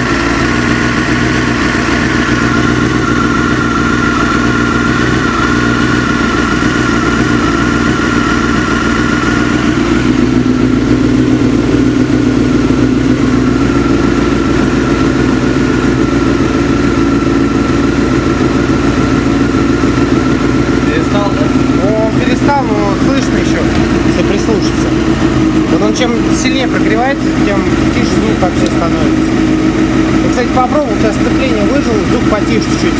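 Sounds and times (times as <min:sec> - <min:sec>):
engine knocking: 0:00.0 - 0:32.9
motorcycle engine idling: 0:00.0 - 0:32.9.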